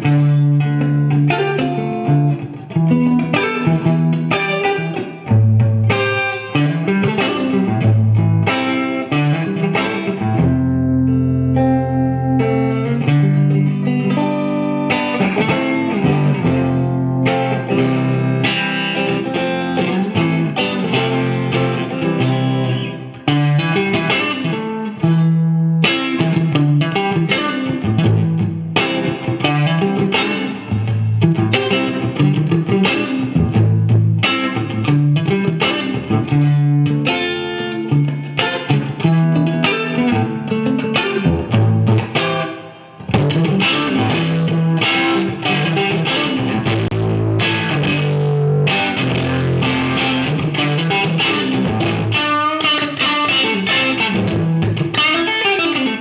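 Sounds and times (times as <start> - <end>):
electric guitar notes and chords: 0.0 - 56.0.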